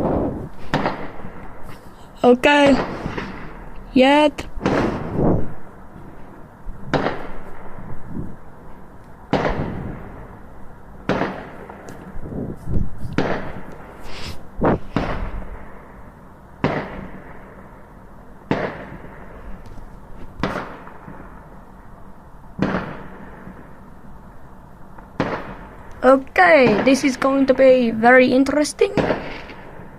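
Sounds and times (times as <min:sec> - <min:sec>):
fireworks banging: 0:00.0 - 0:10.4, 0:11.0 - 0:16.0, 0:16.6 - 0:17.7, 0:18.4 - 0:21.5, 0:22.6 - 0:23.8, 0:25.1 - 0:29.9.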